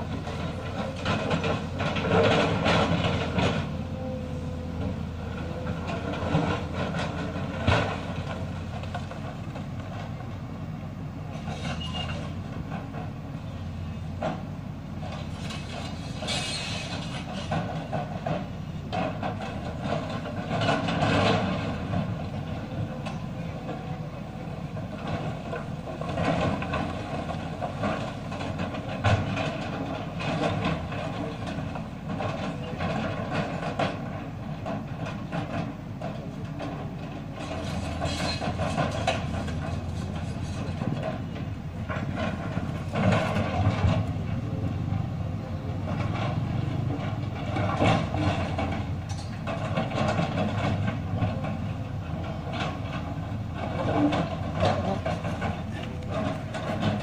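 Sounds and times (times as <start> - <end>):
rock and steel clattering: 0.0 - 10.2, 15.0 - 57.0
excavator diesel engine running: 0.0 - 57.0.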